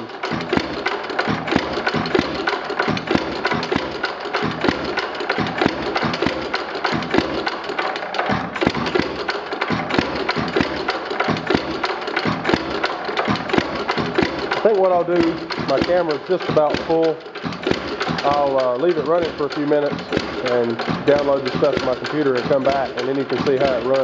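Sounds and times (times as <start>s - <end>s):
cooling fan blowing: 0.0s - 24.0s
hit-and-miss engine knocking: 0.0s - 24.0s.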